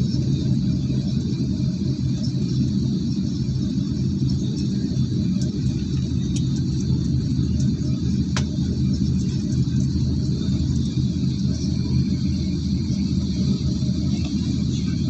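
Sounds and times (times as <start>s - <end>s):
airliner cabin machinery humming: 0.0s - 15.0s.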